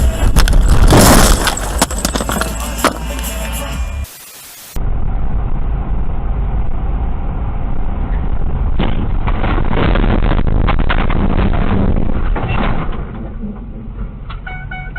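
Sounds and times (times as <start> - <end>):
car engine and road rumble: 0.0 - 14.9.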